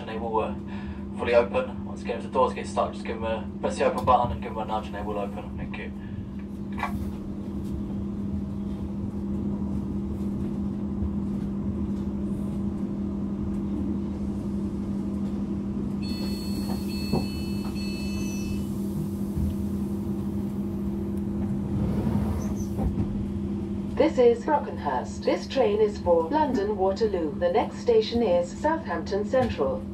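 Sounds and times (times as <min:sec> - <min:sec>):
electric train hum: 0:00.0 - 0:29.9.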